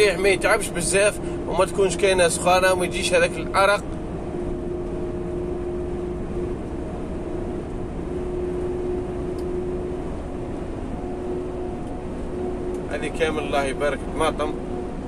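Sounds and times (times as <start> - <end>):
humming whine: 0.0 - 15.0
truck engine and road rumble: 0.0 - 15.0.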